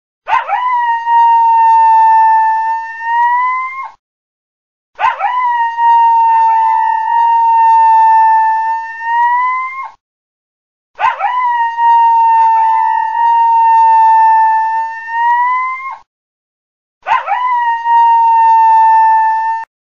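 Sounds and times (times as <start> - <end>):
coyote howling: 0.3 - 3.9, 5.0 - 10.0, 11.0 - 16.0, 17.0 - 19.5.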